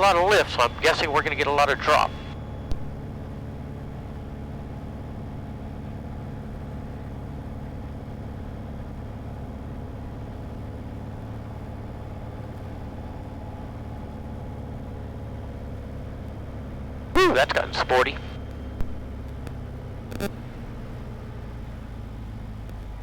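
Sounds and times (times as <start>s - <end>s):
light aircraft engine droning: 0.0s - 23.0s.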